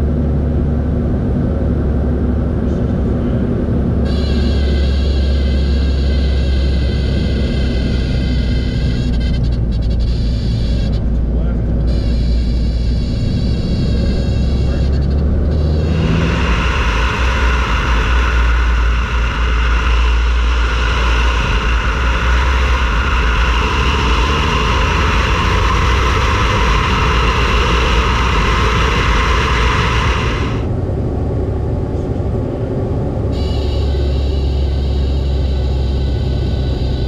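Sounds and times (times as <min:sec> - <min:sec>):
plane engine and propeller droning: 0:00.0 - 0:37.0
loud high buzzing tone: 0:04.0 - 0:30.7, 0:33.3 - 0:37.0.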